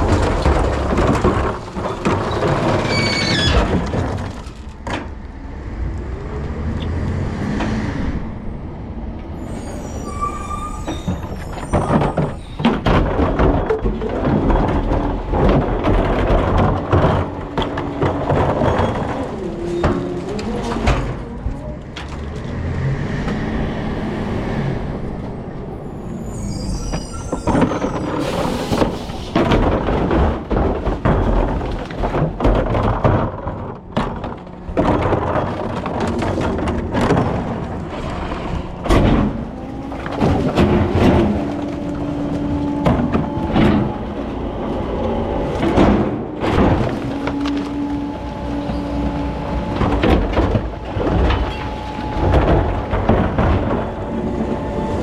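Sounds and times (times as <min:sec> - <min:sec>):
bins knocking and clattering: 0:00.0 - 0:05.2, 0:10.8 - 0:22.8, 0:26.9 - 0:55.0
truck engine and hydraulics: 0:02.3 - 0:31.0, 0:33.4 - 0:55.0.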